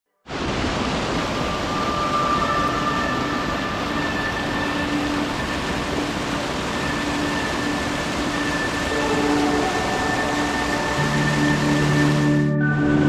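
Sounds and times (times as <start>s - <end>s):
water rushing over a weir: 0.3s - 13.0s.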